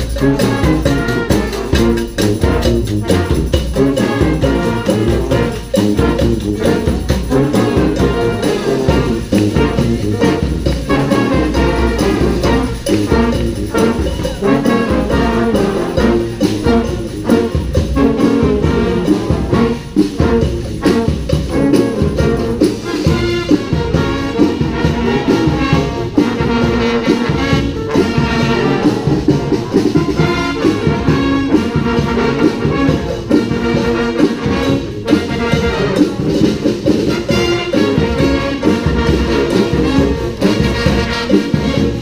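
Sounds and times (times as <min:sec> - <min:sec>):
brass band playing: 0:00.0 - 0:42.0
drum beat: 0:00.0 - 0:42.0.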